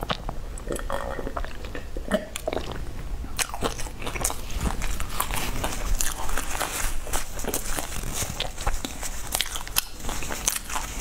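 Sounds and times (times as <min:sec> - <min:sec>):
person chewing crisp food: 0:00.0 - 0:11.0.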